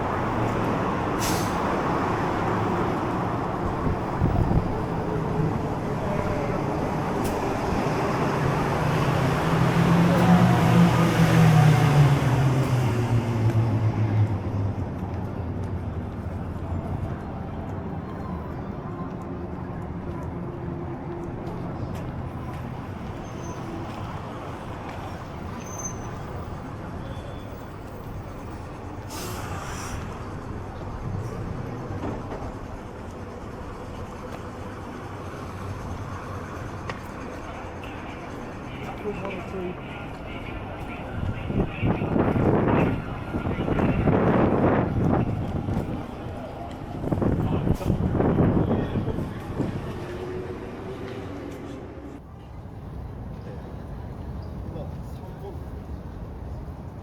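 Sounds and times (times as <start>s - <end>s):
background traffic: 0.0s - 57.0s.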